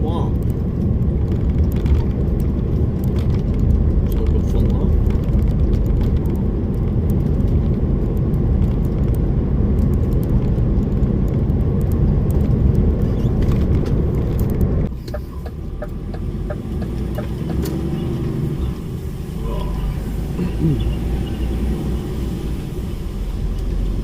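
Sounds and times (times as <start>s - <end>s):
lorry engine and road rumble: 0.0s - 24.0s.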